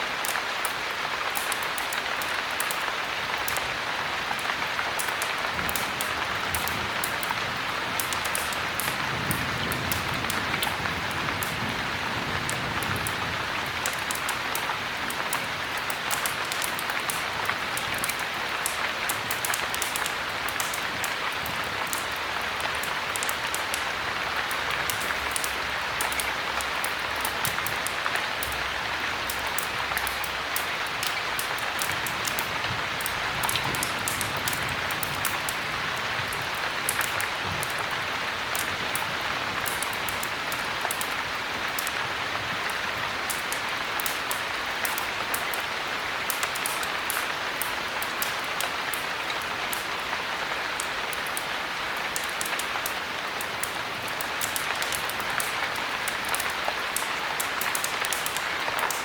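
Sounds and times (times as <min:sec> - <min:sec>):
heavy rain hissing: 0:00.0 - 0:59.0
raindrops ticking: 0:00.0 - 0:59.0.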